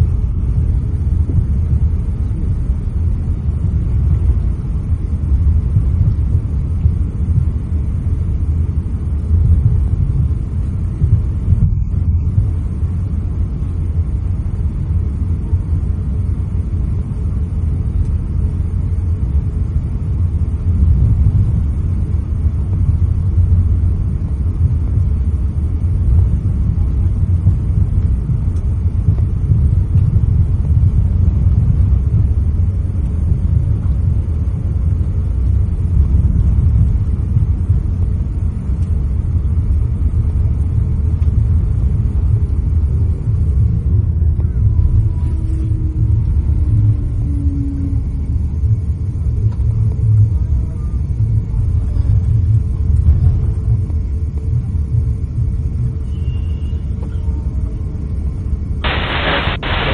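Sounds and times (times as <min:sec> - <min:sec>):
aircraft cabin low rumble: 0:00.0 - 0:59.9.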